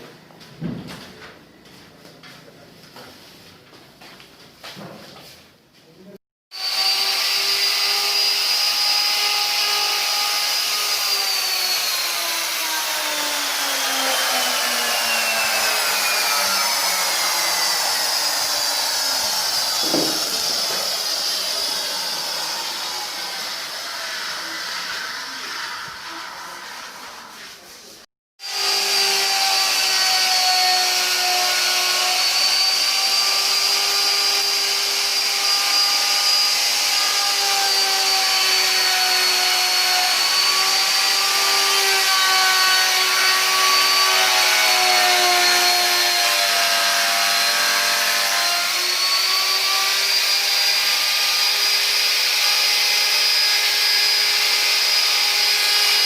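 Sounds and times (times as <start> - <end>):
power tool motor whining: 6.6 - 27.3, 28.4 - 56.0.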